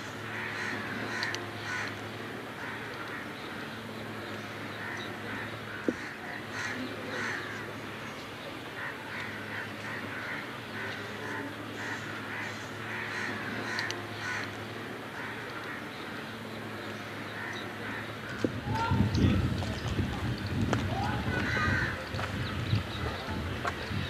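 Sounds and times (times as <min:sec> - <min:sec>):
birds calling harshly: 0:00.0 - 0:24.0.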